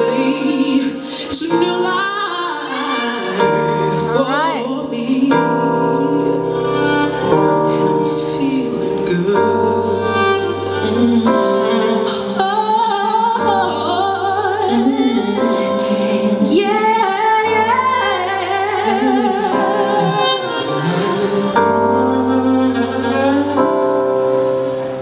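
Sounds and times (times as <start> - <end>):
woman singing wordless jazz lines: 0.0 - 6.7, 7.7 - 21.5
sustained chord accompaniment: 0.0 - 25.0.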